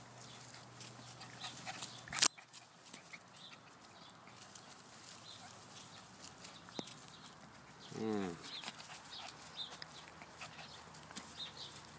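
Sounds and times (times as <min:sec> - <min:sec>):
puppies chewing and rustling: 0:00.0 - 0:11.9.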